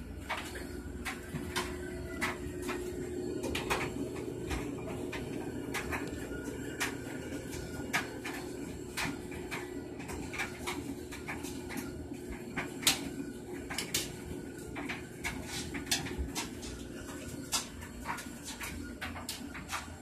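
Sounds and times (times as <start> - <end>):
aquarium air pump humming: 0.0 - 20.0.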